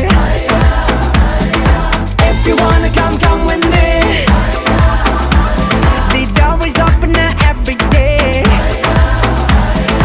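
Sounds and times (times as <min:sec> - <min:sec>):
upbeat pop song: 0:00.0 - 0:10.0.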